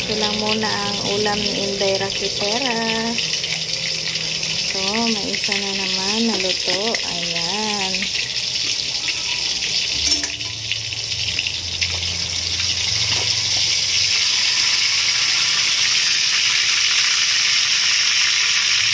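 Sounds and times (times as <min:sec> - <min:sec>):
fish sizzling in hot oil: 0:00.0 - 0:18.9.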